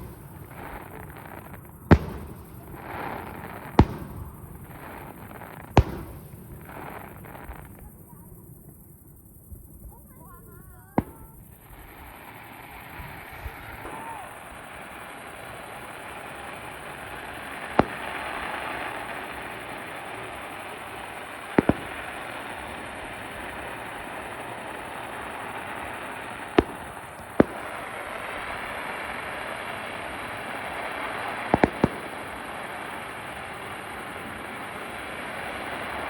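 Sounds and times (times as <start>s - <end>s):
fireworks bursting in sharp bangs: 0.0s - 36.0s
steady hiss: 0.0s - 36.0s.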